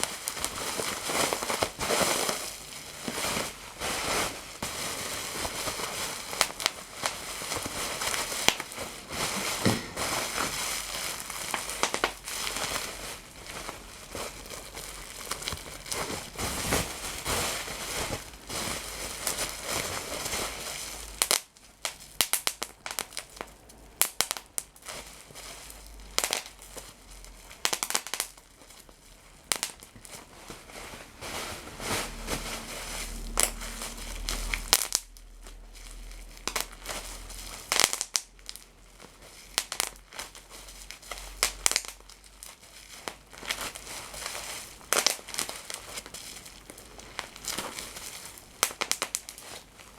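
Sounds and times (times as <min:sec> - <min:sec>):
material crinkling and crackling: 0:00.0 - 0:49.9.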